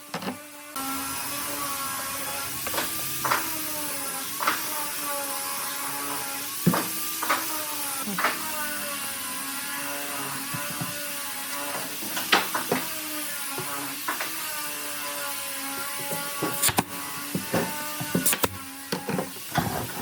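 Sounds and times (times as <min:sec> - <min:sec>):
power tool motor running: 0:00.0 - 0:20.0.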